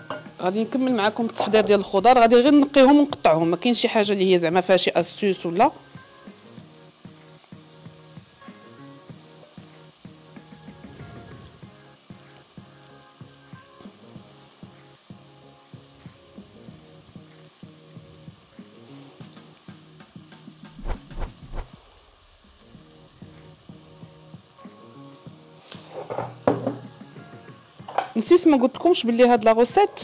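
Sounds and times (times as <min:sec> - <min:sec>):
quiet background music: 0:00.0 - 0:30.0
vegetables sizzling in oil: 0:00.0 - 0:30.0.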